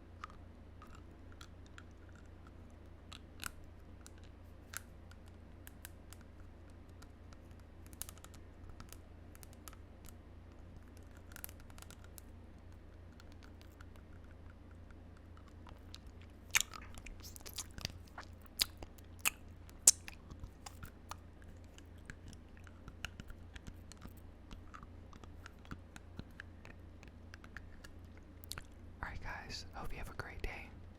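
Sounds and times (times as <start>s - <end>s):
teeth biting and chewing: 0.0s - 28.9s.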